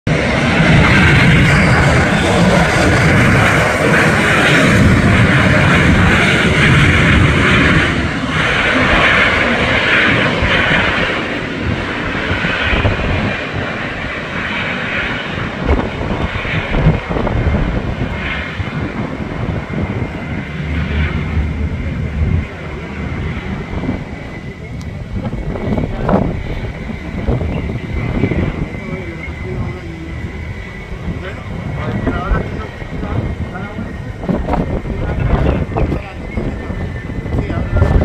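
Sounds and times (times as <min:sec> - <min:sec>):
jet airliner engines running: 0:00.1 - 0:38.0.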